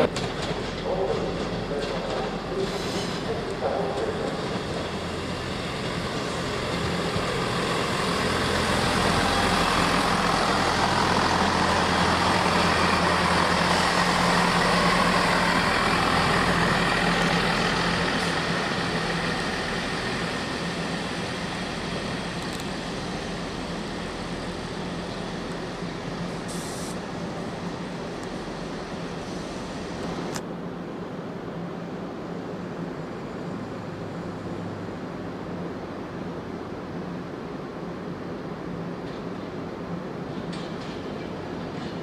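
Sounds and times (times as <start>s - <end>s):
diesel train engine running: 0.0s - 42.0s.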